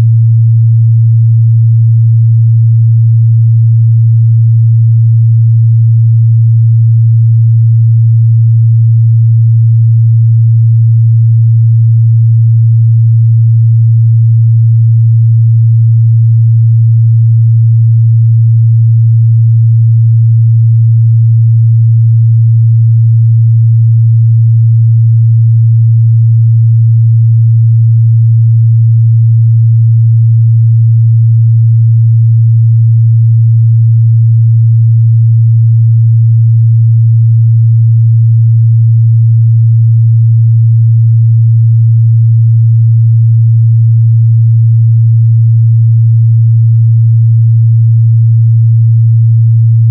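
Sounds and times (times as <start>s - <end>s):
low sine-wave test tone: 0.0s - 42.0s, 42.6s - 45.0s, 49.6s - 49.9s.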